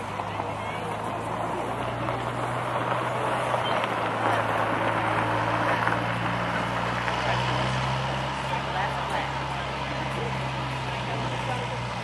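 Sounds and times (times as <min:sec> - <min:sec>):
engine droning: 0:00.0 - 0:12.0
outdoor noise: 0:00.0 - 0:12.0.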